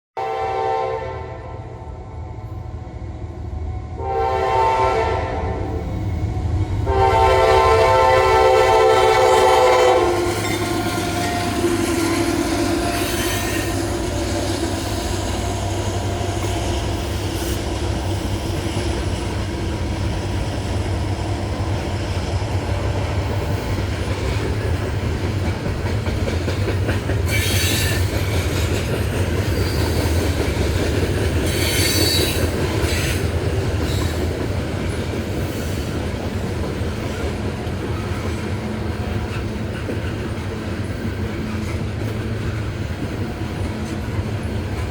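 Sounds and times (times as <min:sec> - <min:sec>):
train rumbling past: 0:00.2 - 0:44.9.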